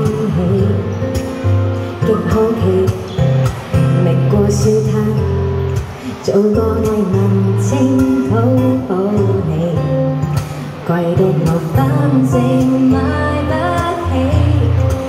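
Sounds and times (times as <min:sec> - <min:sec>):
acoustic guitar: 0:00.0 - 0:15.0
woman singing into microphone: 0:00.0 - 0:15.0.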